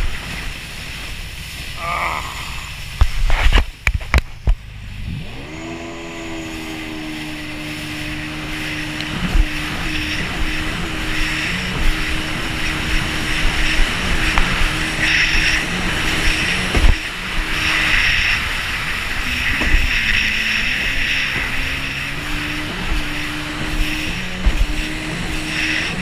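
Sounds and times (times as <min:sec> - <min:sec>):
jet ski engine running: 0:00.0 - 0:26.0
water spray hissing: 0:04.6 - 0:26.0.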